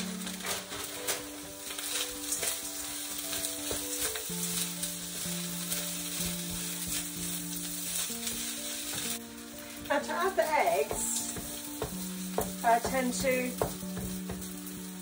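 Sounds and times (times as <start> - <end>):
rice sizzling in a wok: 0.0 - 15.0
soft background music: 0.0 - 15.0.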